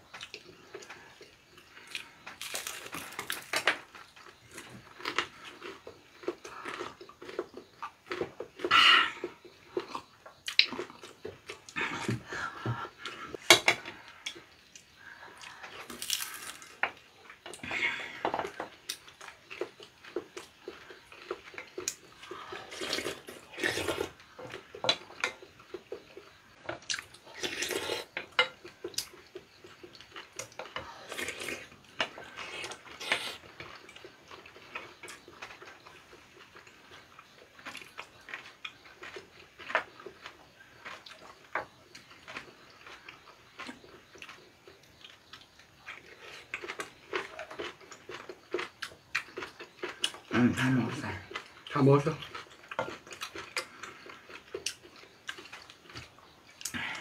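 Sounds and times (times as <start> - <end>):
slurping and chewing: 0.1 - 57.0.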